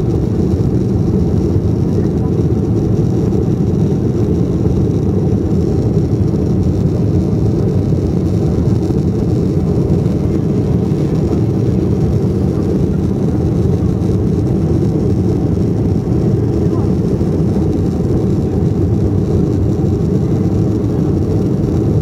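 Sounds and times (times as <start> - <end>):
jet engines from inside cabin: 0.0 - 22.0.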